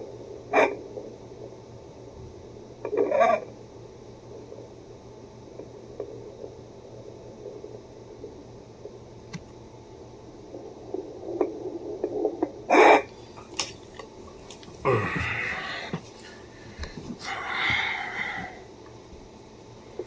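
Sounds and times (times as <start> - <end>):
doppler speaker static hiss: 0.0 - 20.0.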